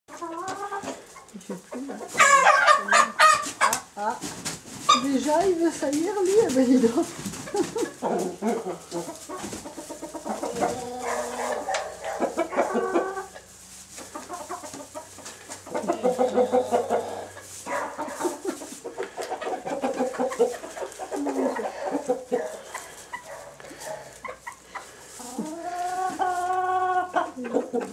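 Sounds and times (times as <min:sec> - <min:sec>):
chickens clucking: 0:00.1 - 0:27.9.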